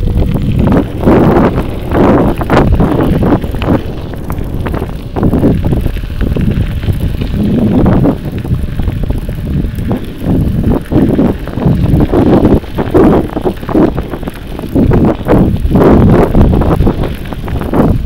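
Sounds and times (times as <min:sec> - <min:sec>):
bicycle rolling noise: 0:00.0 - 0:18.0
wind buffeting microphone: 0:00.0 - 0:18.0.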